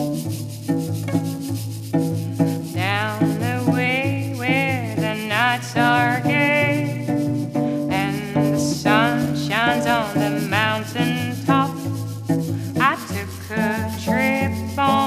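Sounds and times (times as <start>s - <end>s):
cello playing low figure: 0.0s - 15.0s
woman singing: 2.8s - 15.0s.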